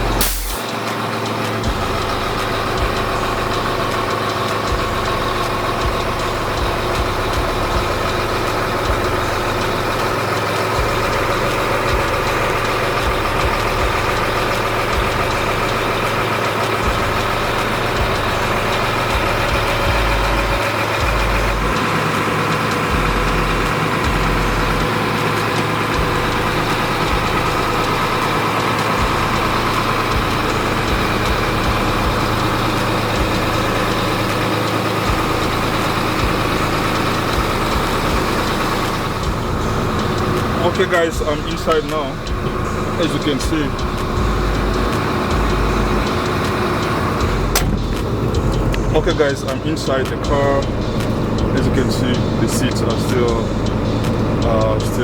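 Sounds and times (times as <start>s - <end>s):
truck diesel engine idling: 0.0s - 55.0s.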